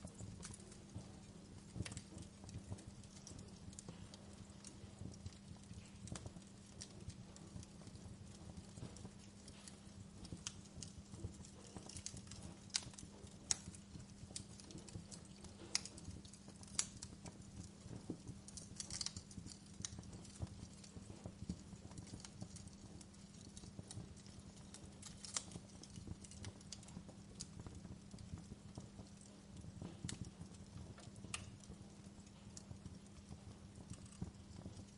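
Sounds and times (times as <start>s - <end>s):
steady low hum: 0.0s - 34.9s
wood fire crackling: 0.0s - 34.9s
sharp pops of burning logs: 0.1s - 34.9s.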